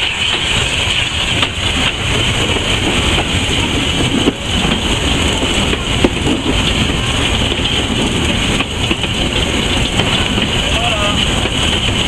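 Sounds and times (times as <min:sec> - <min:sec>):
steam locomotive running noise: 0:00.0 - 0:12.0.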